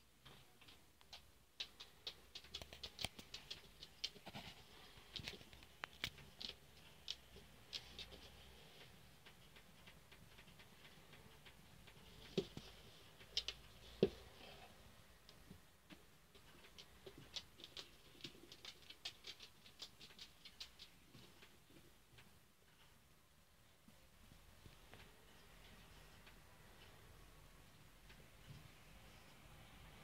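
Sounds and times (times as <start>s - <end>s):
faint clicks and ticks: 0.0s - 30.0s.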